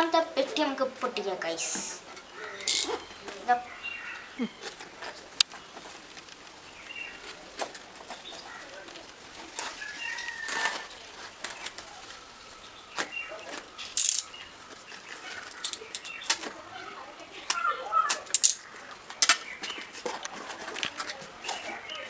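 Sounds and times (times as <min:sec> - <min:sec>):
birds chirping faintly: 0:00.0 - 0:22.0
ripping hiss: 0:00.3 - 0:22.0.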